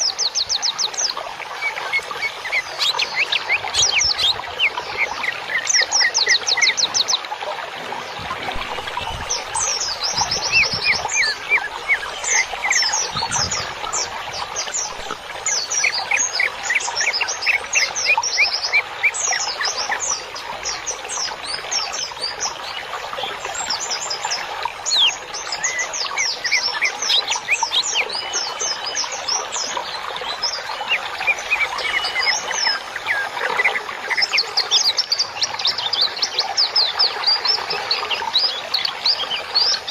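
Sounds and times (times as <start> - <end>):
songbirds chirping and singing: 0.0 - 7.3, 8.0 - 39.9.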